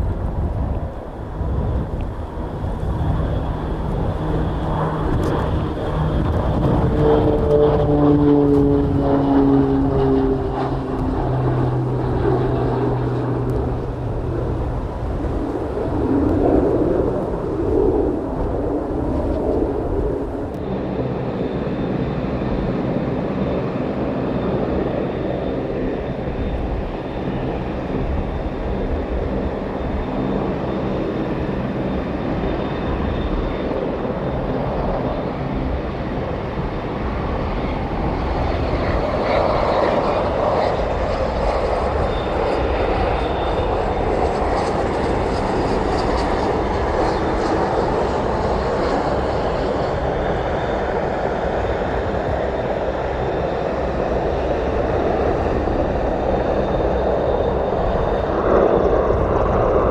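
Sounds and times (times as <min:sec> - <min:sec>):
airplane engines running: 0:00.0 - 0:59.9.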